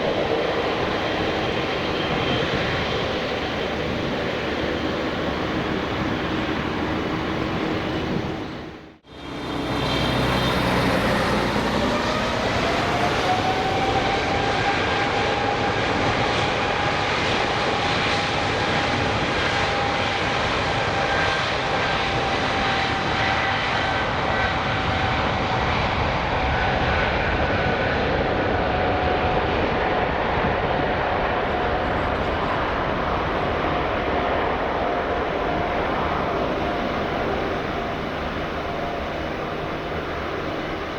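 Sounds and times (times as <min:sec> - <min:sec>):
jet engine whine: 0:00.0 - 0:40.9
jet engines roaring: 0:00.0 - 0:40.9.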